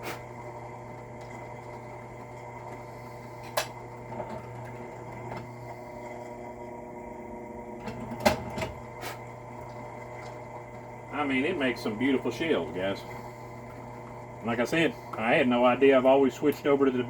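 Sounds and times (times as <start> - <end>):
drill press running: 0.0 - 17.0.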